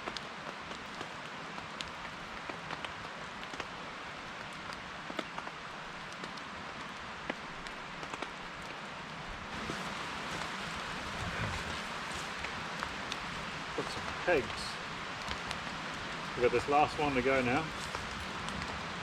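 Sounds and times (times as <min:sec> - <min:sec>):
heavy rain hissing: 0:00.0 - 0:19.0
raindrops ticking: 0:00.0 - 0:19.0.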